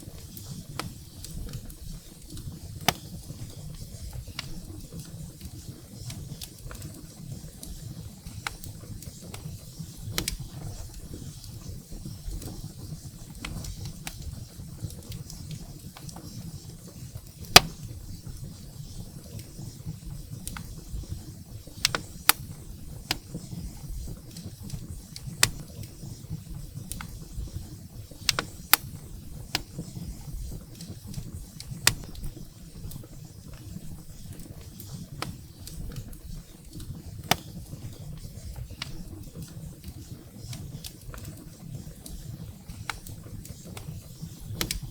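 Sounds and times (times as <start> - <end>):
firewood crackling and popping: 0.0 - 44.9.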